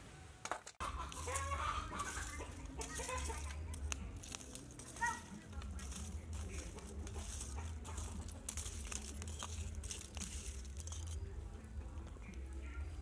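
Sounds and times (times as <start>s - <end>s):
charcoal embers crackling: 0.6s - 13.0s.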